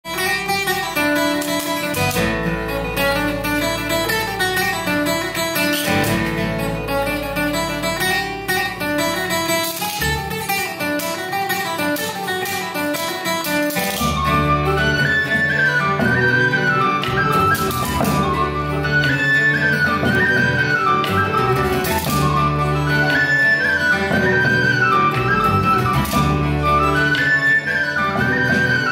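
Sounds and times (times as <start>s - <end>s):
plucked string instruments: 0.0s - 28.9s
strummed guitar: 0.0s - 28.9s
wind instrument: 0.1s - 28.9s.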